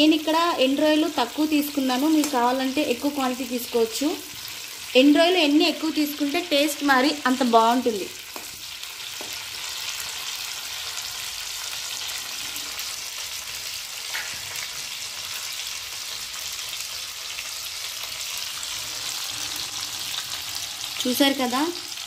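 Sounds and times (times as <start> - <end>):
prawns sizzling in hot oil: 0.0 - 22.0.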